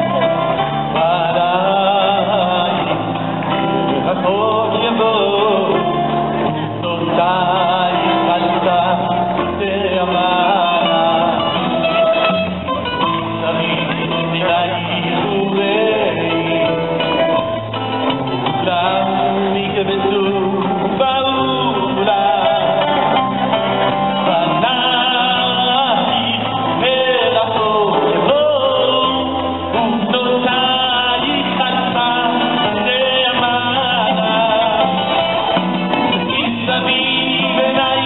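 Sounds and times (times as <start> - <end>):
live band playing: 0.0 - 38.0
man singing into microphone: 0.0 - 38.0.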